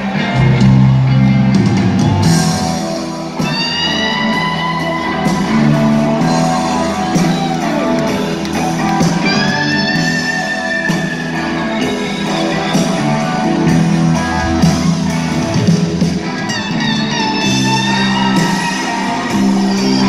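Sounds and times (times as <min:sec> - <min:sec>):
electric guitar bending long notes: 0:00.0 - 0:20.0
live rock band playing: 0:00.0 - 0:20.0.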